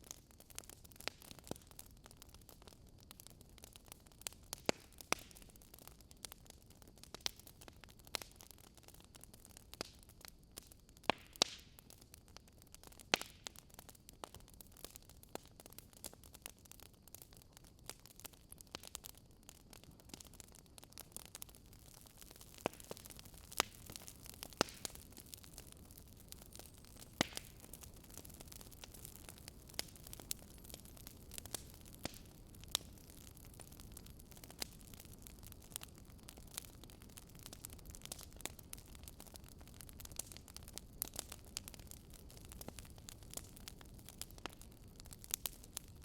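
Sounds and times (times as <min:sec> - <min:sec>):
campfire crackling: 0:00.0 - 0:46.0
fire snapping: 0:00.0 - 0:46.0.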